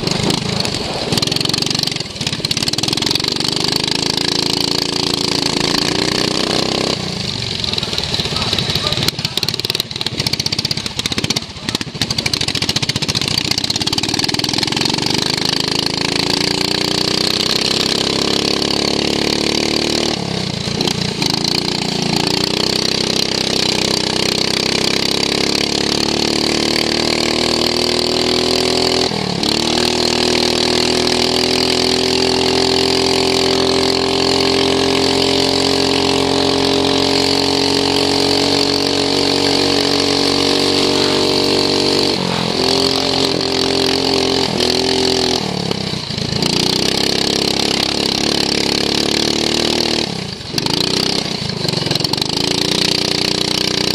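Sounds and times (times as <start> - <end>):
lawn mower engine racing: 0.0 - 53.9.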